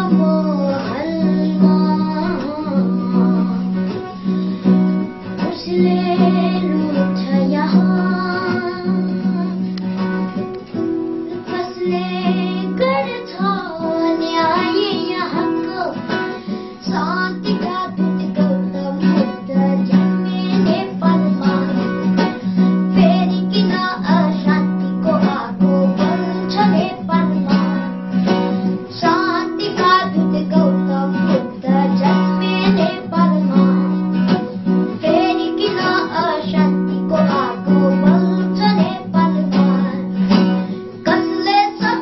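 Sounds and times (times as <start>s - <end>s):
boy singing: 0.0s - 4.4s, 5.3s - 9.7s, 11.3s - 42.0s
strummed acoustic guitar: 0.0s - 42.0s.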